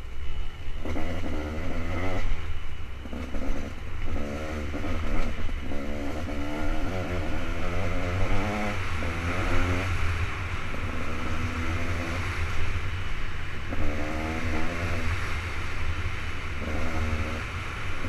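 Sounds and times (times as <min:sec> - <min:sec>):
two-stroke motorcycle engine revving: 0:00.8 - 0:18.0.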